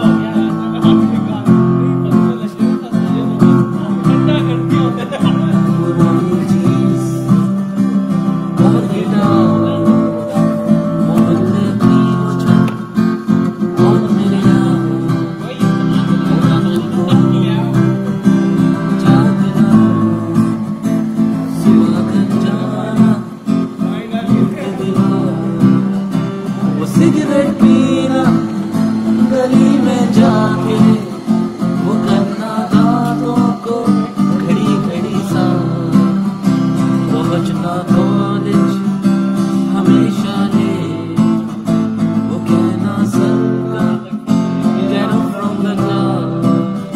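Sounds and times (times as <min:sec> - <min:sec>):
acoustic guitar strumming: 0:00.0 - 0:46.9
man singing: 0:00.0 - 0:46.9.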